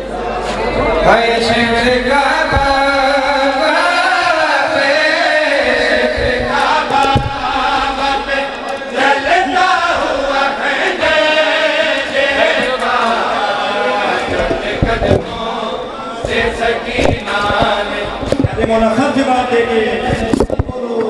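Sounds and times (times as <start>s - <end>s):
men chanting lament through loudspeaker: 0.0s - 21.0s.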